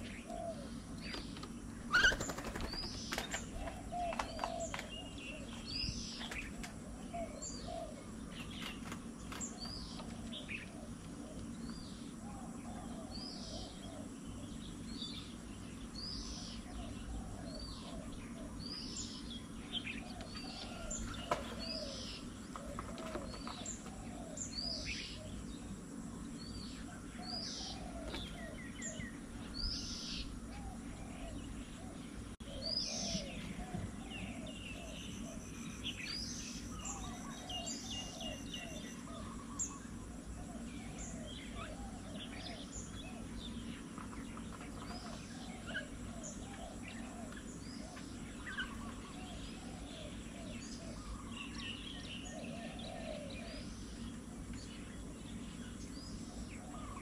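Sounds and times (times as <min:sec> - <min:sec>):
birds chirping and whistling: 0:00.0 - 0:57.0.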